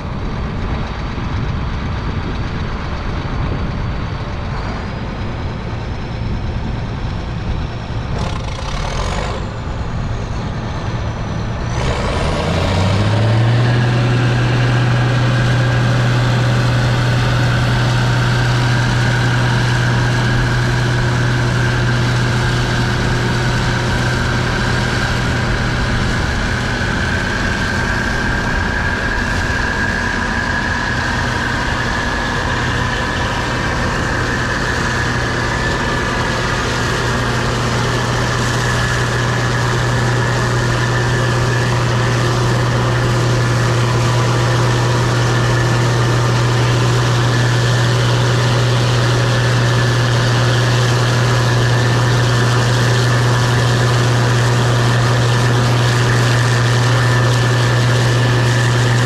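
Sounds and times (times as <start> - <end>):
combine engine drone: 0.0 - 59.0
high machine whine: 0.0 - 59.0.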